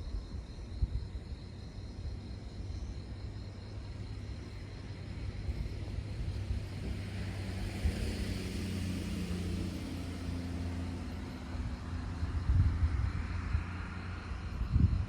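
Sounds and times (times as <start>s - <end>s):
distant engine hum: 1.4s - 15.0s.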